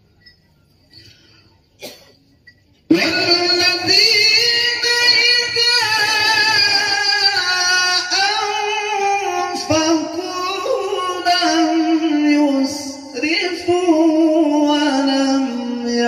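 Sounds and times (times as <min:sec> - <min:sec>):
man chanting into a microphone: 0:02.9 - 0:16.0.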